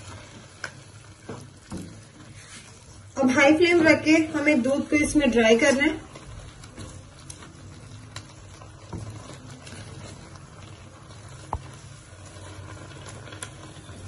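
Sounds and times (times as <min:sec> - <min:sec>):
milk bubbling in a pan: 0:00.0 - 0:14.0.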